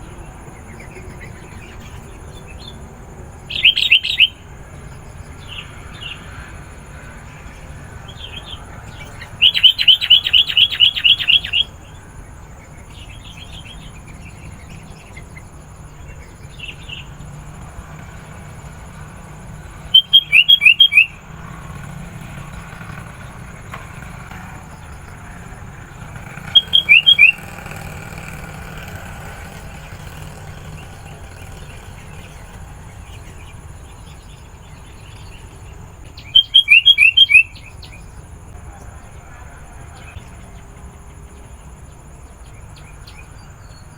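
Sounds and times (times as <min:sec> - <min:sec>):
bird calling: 0:00.0 - 0:43.9.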